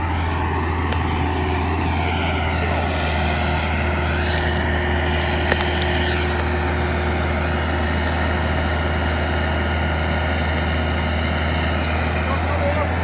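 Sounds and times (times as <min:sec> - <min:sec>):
excavator engine droning: 0:00.0 - 0:13.0.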